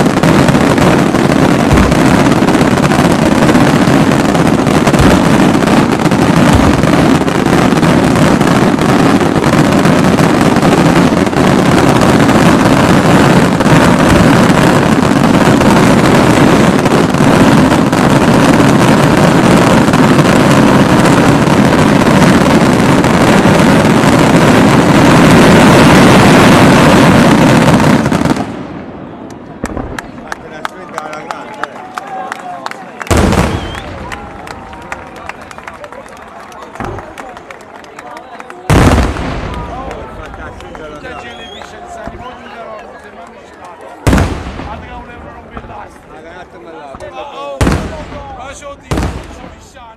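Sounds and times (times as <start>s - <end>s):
fireworks barrage: 0.0s - 31.4s, 32.6s - 49.9s.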